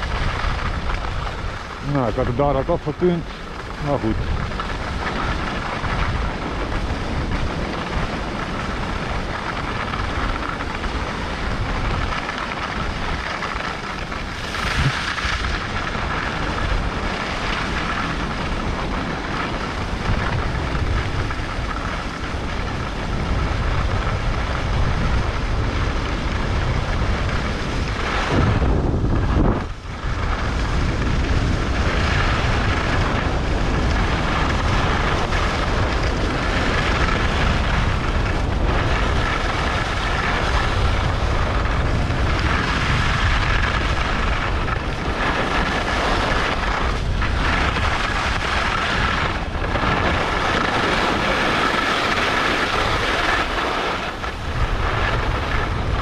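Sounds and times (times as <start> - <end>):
skis scraping on snow: 0.0 - 56.0
wind rushing over microphone: 0.0 - 56.0.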